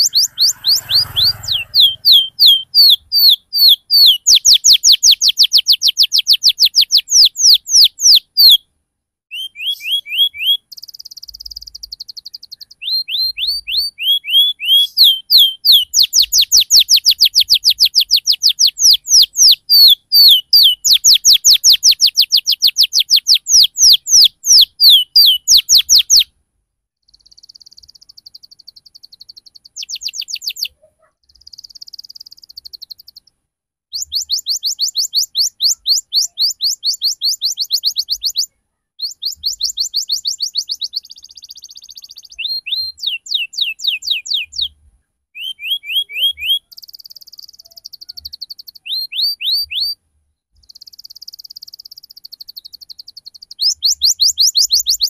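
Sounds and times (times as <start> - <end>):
canary singing: 0.0 - 8.7, 9.3 - 26.3, 27.0 - 44.8, 45.4 - 55.0.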